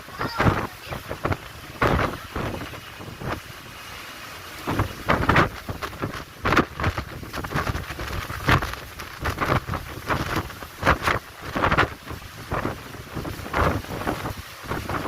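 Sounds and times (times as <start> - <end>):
heavy rain falling: 0.0 - 15.0
wind buffeting microphone: 0.0 - 15.0.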